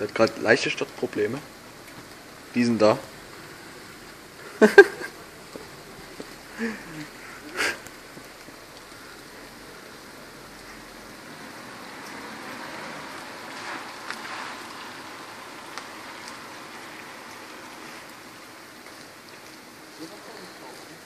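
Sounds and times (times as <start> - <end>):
rain falling on wet street: 0.0 - 21.0.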